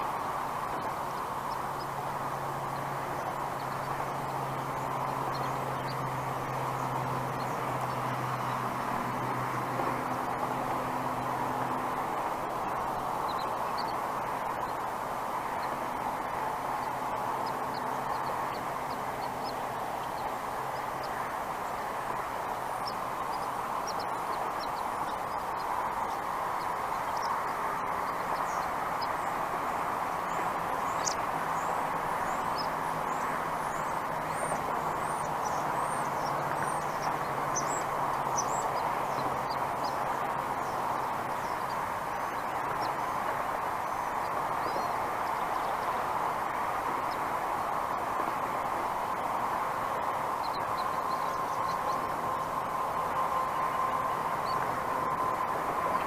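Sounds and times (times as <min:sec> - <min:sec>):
small birds chirping: 0:00.0 - 0:56.0
steady background rush: 0:00.0 - 0:56.0.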